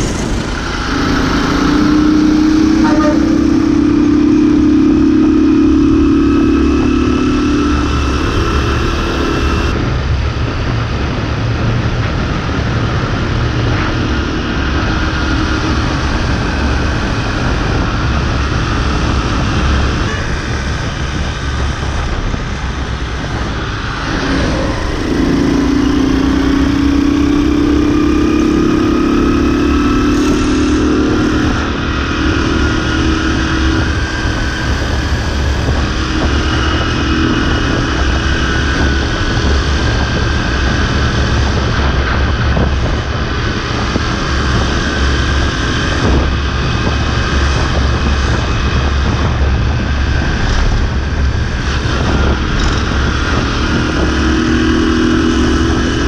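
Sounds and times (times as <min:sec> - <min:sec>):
motorbike engine running: 0:00.0 - 0:56.0
wind rumble on microphone: 0:00.0 - 0:56.0.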